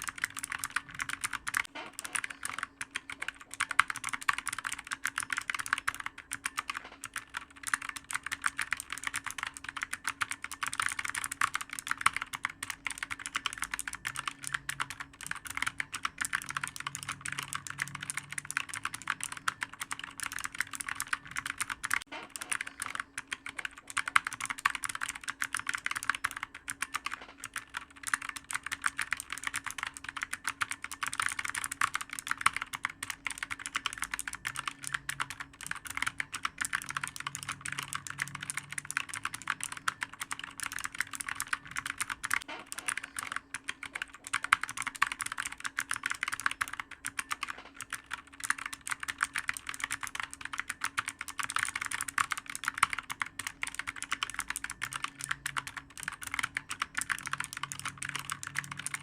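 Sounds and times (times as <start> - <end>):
typing on clicky keyboard: 0.0 - 59.0.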